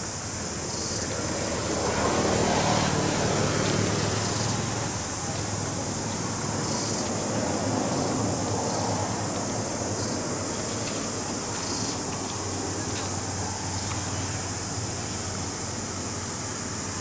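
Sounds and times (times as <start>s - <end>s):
steady high hiss: 0.0s - 17.0s
vehicle passing: 1.0s - 17.0s.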